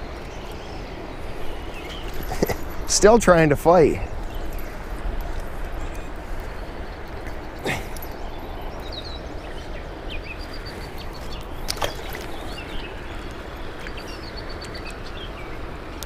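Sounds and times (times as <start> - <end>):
flowing river water: 0.0 - 16.0
small birds chirping: 0.0 - 16.0.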